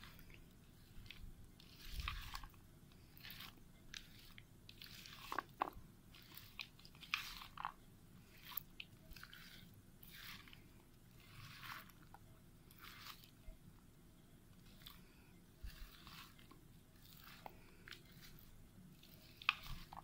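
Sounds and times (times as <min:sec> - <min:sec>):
spatula stirring wet salad: 0:00.0 - 0:20.0.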